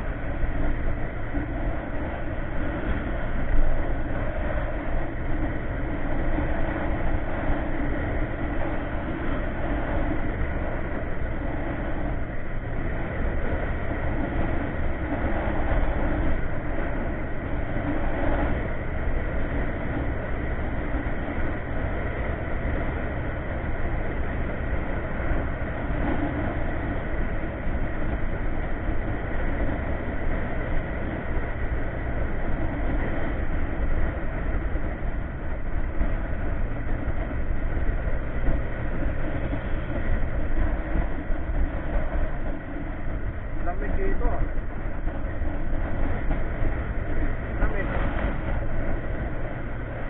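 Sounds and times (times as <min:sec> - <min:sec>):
road noise: 0:00.0 - 0:50.0
scooter engine drone: 0:00.0 - 0:50.0
wind rush on microphone: 0:00.0 - 0:50.0.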